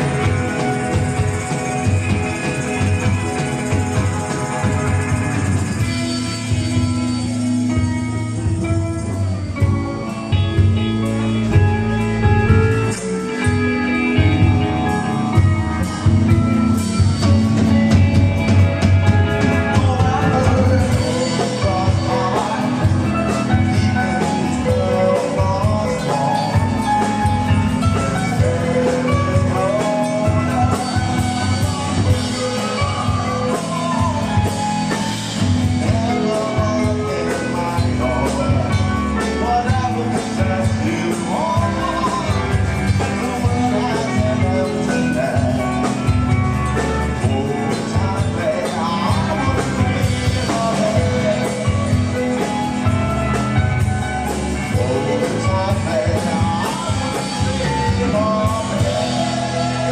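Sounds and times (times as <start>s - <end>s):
rock band with singing: 0.0s - 59.9s.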